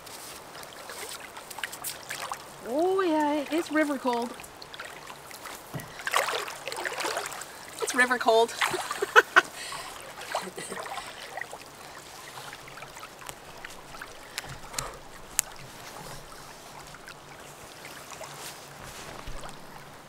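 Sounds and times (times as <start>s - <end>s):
river water splashing: 0.0s - 20.0s.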